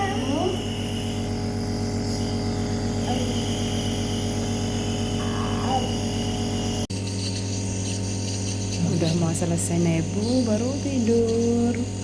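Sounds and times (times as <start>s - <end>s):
nebulizer buzzing hum: 0.0s - 12.0s.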